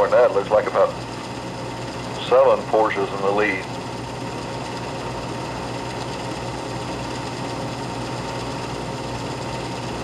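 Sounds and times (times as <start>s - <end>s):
film projector whirring: 0.0s - 10.0s.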